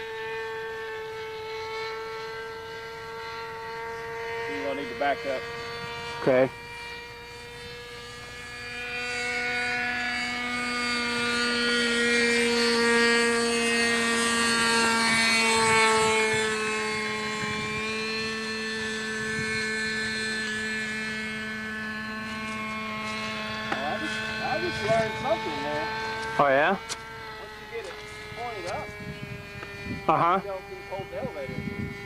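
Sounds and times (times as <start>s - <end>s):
model airplane engine and propeller: 0.0s - 32.0s.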